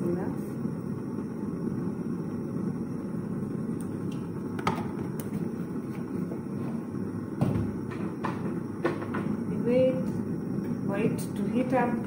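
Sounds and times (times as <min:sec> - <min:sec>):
gas stove burner rumbling: 0:00.0 - 0:12.0.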